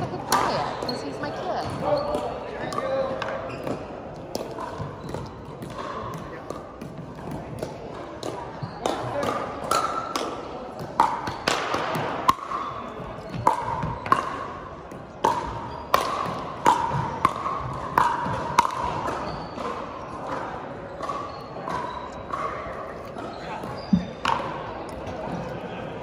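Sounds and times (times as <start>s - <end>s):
paddles hitting plastic ball: 1.6s - 22.6s.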